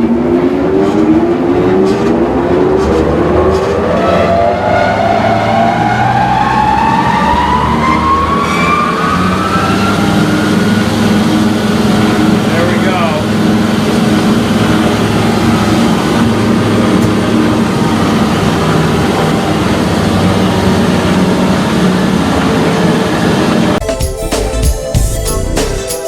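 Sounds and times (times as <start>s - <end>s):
low motor hum: 0.0s - 23.8s.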